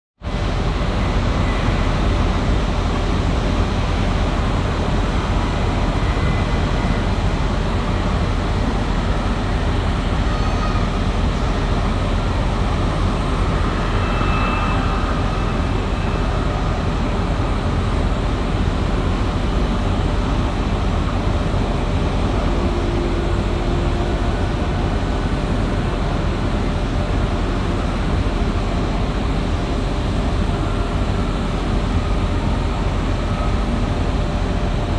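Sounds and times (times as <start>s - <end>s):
jet engine rushing and rumbling: 0.3s - 34.9s.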